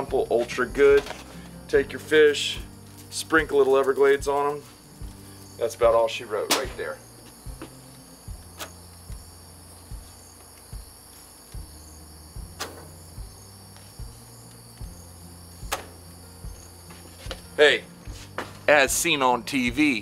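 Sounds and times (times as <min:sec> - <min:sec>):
crickets chirring: 0:00.0 - 0:20.0
faint music with bass thumps: 0:00.0 - 0:20.0.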